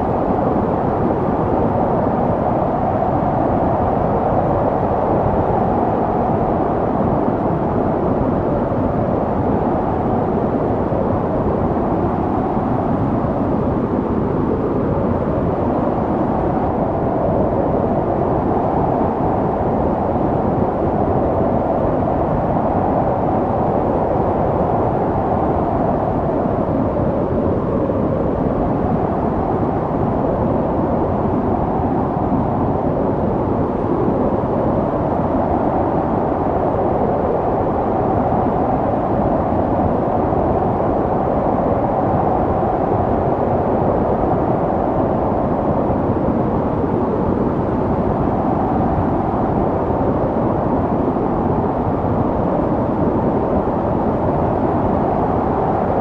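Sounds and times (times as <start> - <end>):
snowstorm wind blowing: 0.0 - 56.0.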